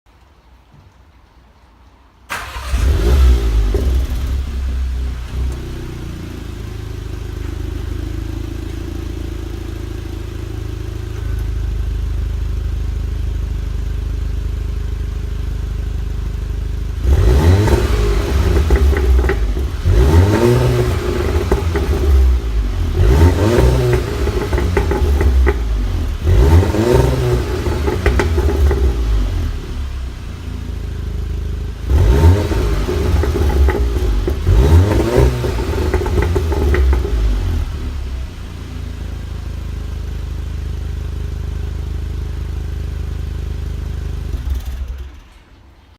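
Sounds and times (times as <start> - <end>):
car engine idling and revving: 2.3 - 45.9.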